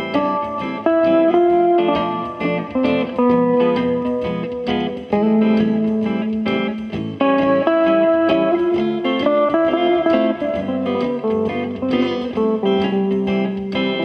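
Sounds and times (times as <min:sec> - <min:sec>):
amplified guitar melody: 0:00.0 - 0:14.0.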